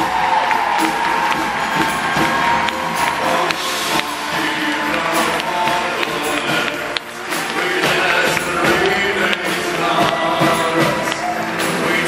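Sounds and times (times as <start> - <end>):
crowd cheering: 0.0 - 12.0
live band music: 0.0 - 12.0.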